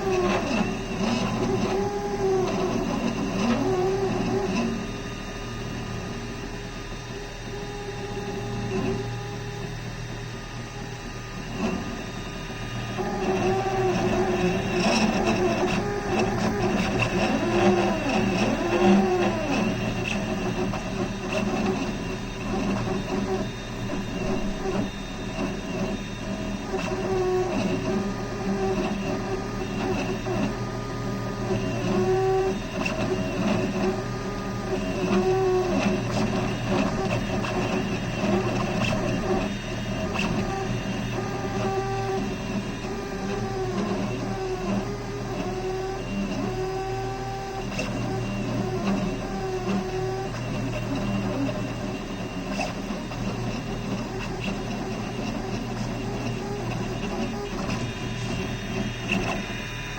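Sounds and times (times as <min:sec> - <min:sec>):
steady low hum: 0:00.0 - 0:59.9
stepper motors whining: 0:00.0 - 0:59.9.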